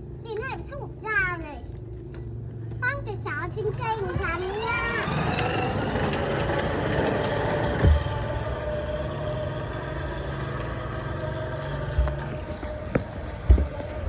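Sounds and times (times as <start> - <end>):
vehicle motor humming: 1.8 - 14.0.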